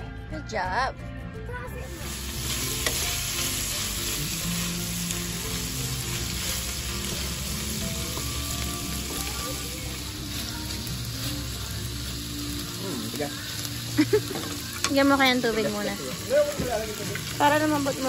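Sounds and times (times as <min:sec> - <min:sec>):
food sizzling in a wok: 0:01.8 - 0:18.0
spatula stir-frying: 0:01.8 - 0:18.0.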